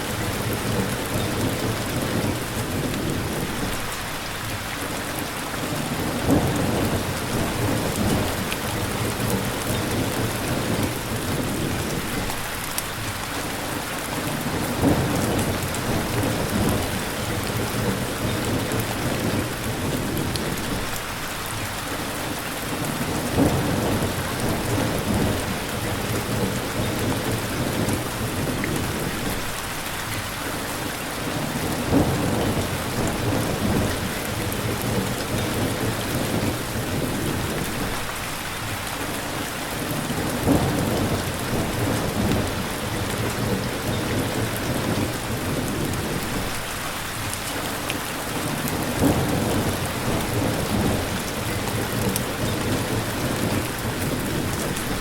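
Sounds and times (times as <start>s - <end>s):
thunder rumbles: 0.0s - 4.0s, 5.8s - 12.6s, 14.4s - 21.0s, 22.8s - 29.7s, 31.2s - 38.2s, 39.8s - 47.3s, 48.4s - 55.0s
steady rain pouring: 0.0s - 55.0s.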